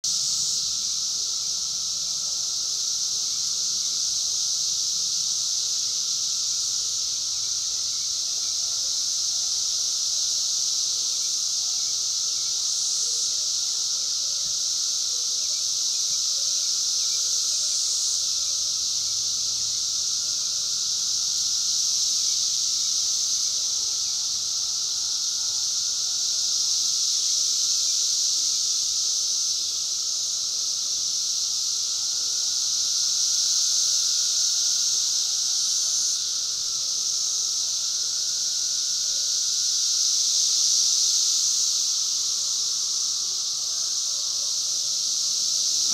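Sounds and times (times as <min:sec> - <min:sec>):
cicadas droning: 0:00.0 - 0:45.9.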